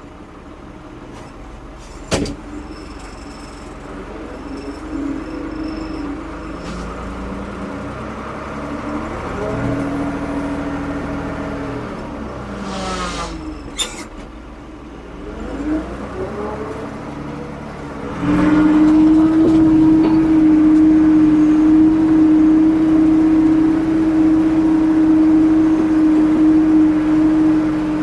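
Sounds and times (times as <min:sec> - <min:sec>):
diesel engine revving: 0:03.9 - 0:28.0.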